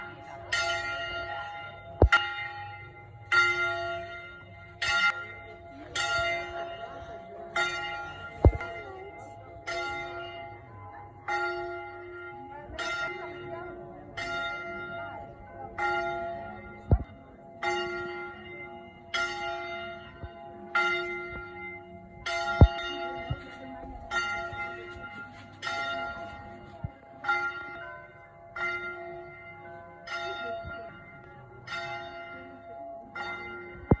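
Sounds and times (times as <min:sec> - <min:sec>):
church bell tolling: 0:00.0 - 0:34.0.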